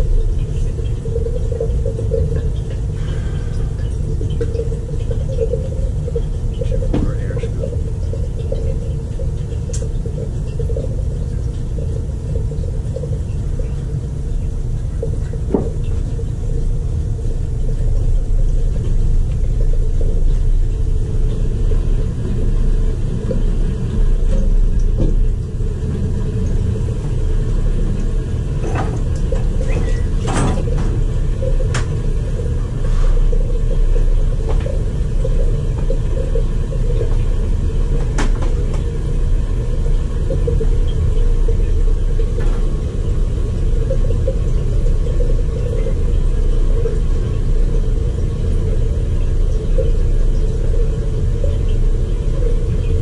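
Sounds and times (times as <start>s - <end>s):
boiler burner rumble: 0.0s - 53.0s.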